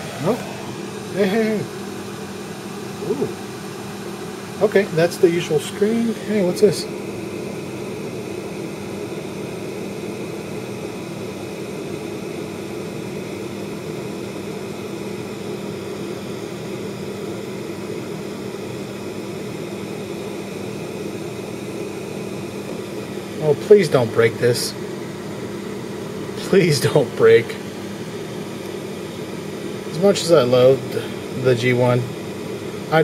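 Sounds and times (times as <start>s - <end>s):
fan humming: 0.0s - 33.0s.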